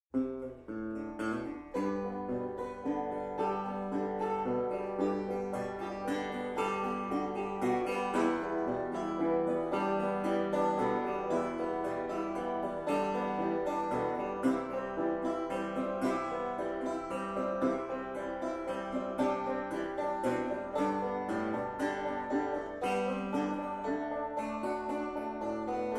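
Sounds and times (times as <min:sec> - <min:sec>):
banjo and guitar music: 0:00.1 - 0:25.9.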